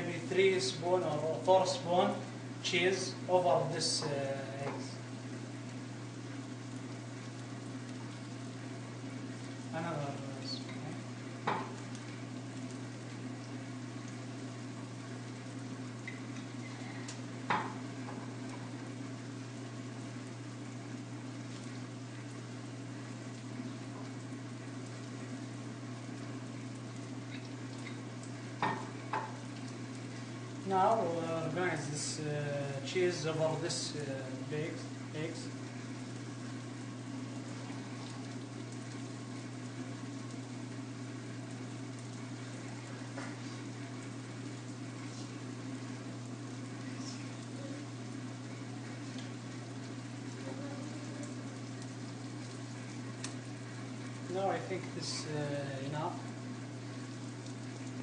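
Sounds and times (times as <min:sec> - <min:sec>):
constant low hum: 0:00.0 - 0:58.0
eggs sizzling in a pan: 0:00.0 - 0:58.0.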